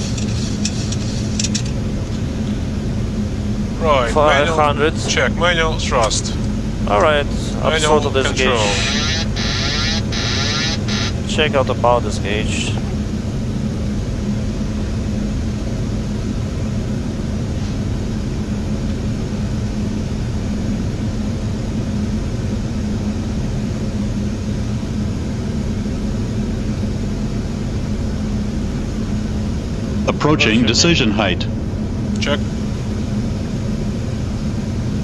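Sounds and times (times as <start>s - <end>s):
aircraft cockpit air and engine noise: 0.0s - 35.0s.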